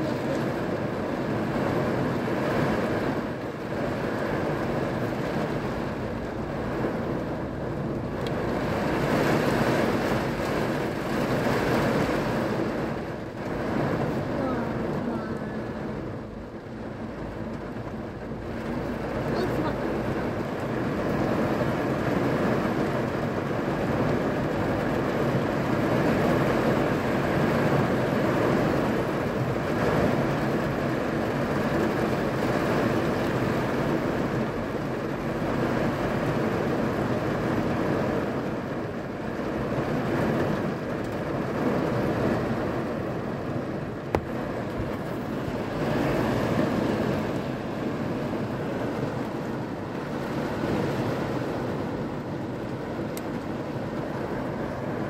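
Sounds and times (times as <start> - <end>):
rain on a car roof: 0.0 - 55.0.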